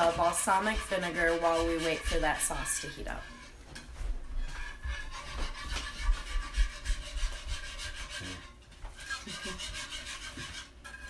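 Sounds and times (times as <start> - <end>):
wire whisk scraping a skillet: 0.0 - 3.6, 4.3 - 11.0.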